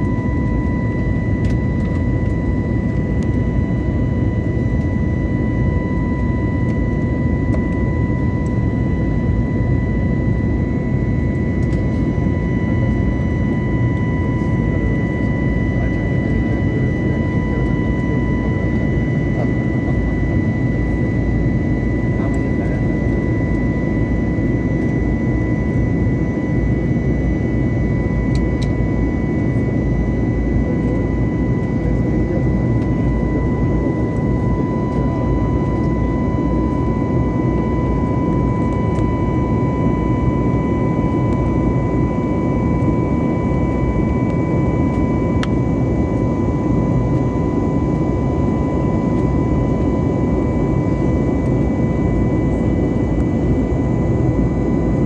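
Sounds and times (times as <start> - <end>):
jet engine roar with whine: 0.0 - 55.0.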